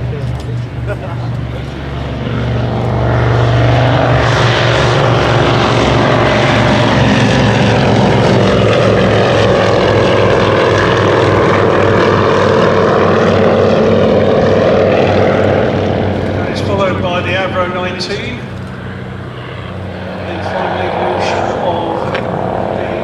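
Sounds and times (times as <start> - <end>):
propeller aircraft engines droning: 0.0 - 23.0.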